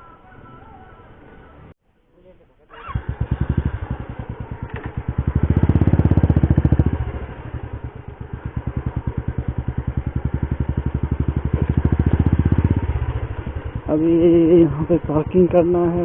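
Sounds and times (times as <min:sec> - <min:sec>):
motorcycle engine running: 0:02.7 - 0:16.0.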